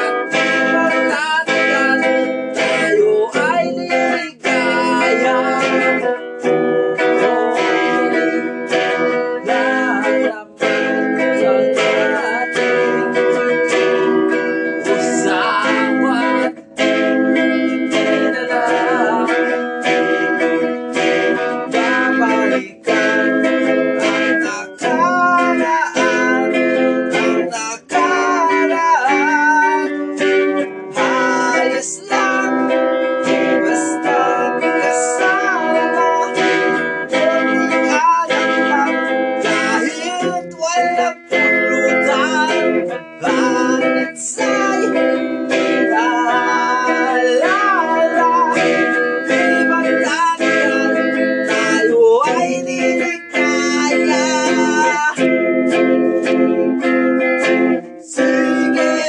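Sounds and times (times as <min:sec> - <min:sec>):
guitar playing over video call: 0:00.0 - 0:59.0.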